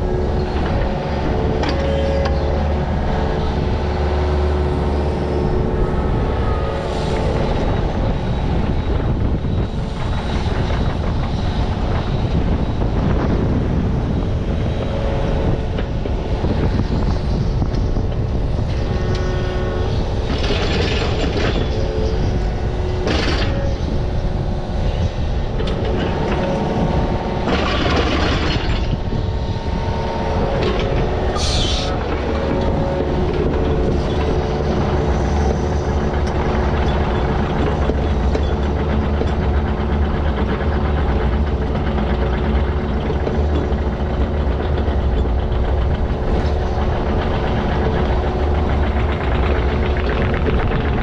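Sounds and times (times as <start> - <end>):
diesel engine of digging machine: 0.0 - 51.0.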